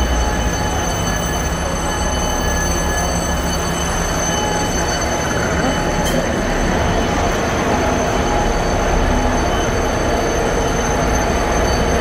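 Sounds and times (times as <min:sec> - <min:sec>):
fire alarm bell ringing: 0:00.0 - 0:12.0.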